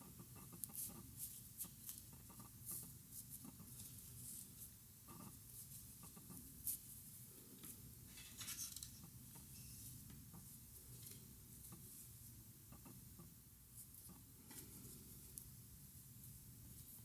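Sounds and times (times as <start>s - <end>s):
low room hiss: 0.0s - 17.0s.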